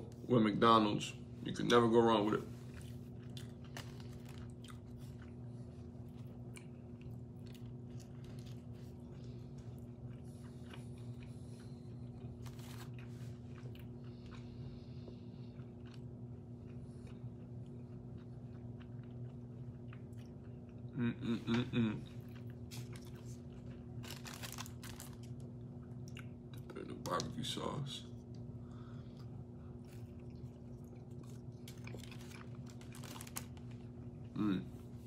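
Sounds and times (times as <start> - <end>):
steady low hum: 0.0 - 35.0
person chewing food: 2.6 - 26.7, 28.2 - 34.4.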